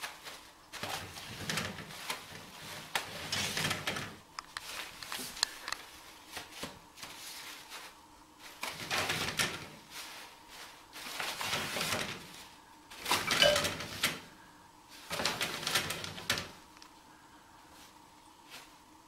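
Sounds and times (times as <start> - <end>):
toilet paper rustling and crinkling: 0.0 - 16.7.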